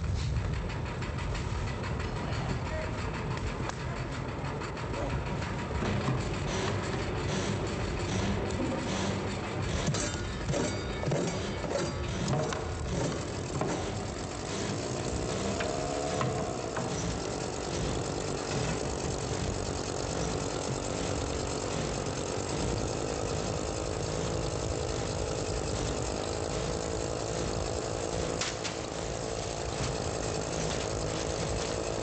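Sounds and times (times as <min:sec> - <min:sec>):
machine running: 0:00.0 - 0:32.0.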